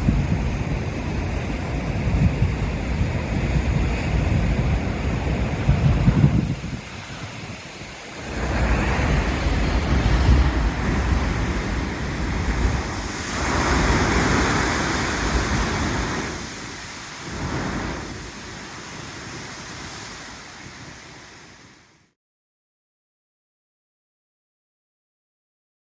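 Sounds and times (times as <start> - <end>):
sea waves breaking on rocks: 0.0 - 21.8.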